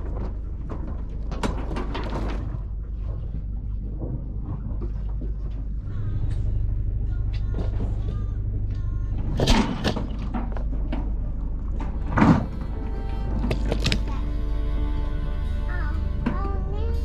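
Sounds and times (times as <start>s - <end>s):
yacht low rumble: 0.0s - 17.0s.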